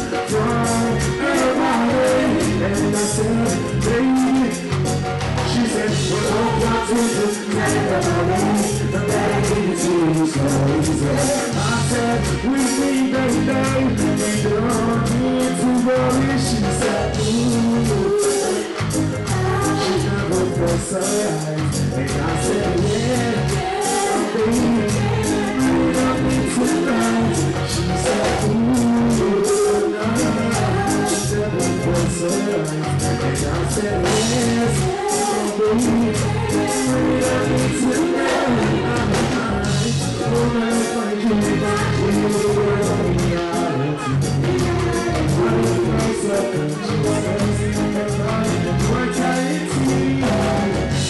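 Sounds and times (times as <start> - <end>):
live reggae music: 0.0 - 51.0
man singing into microphone: 0.0 - 51.0.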